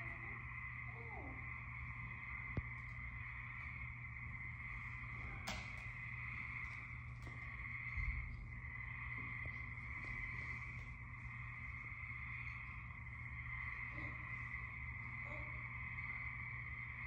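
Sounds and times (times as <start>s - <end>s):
low steady hum: 0.0s - 17.0s
treefrogs trilling: 0.0s - 17.0s.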